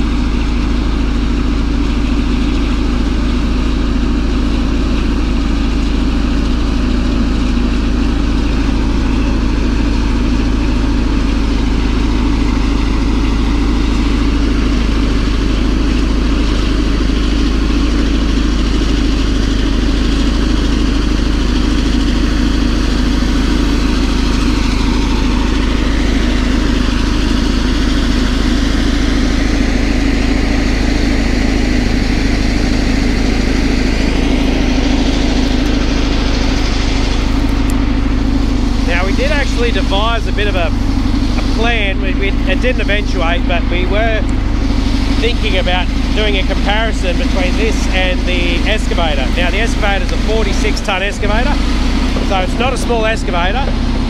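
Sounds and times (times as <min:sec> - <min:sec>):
bulldozer diesel engine under load: 0:00.0 - 0:54.0
dozer blade pushing dirt: 0:00.2 - 0:54.0.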